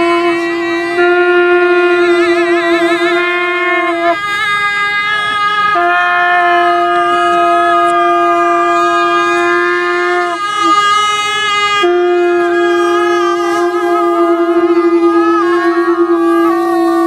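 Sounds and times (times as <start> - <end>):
double-reed shawm long notes: 0.0 - 17.0.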